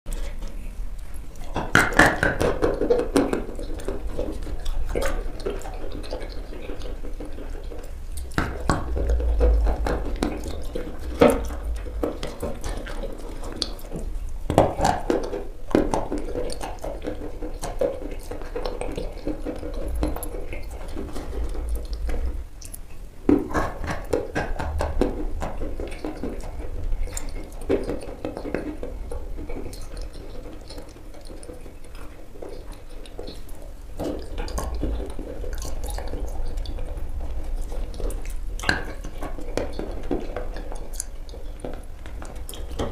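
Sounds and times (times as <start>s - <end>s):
wet mouth eating sounds: 0.1s - 42.9s.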